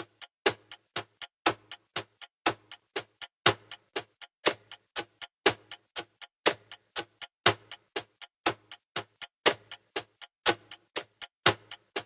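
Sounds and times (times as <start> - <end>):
clock-like ticking beat: 0.0 - 12.0.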